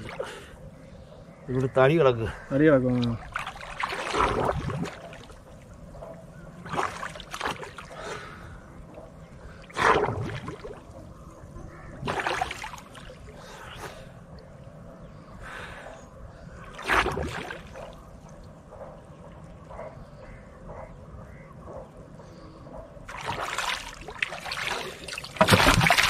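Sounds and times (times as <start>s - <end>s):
water splashing and sloshing: 0.0s - 1.2s, 2.6s - 15.1s, 16.2s - 26.0s.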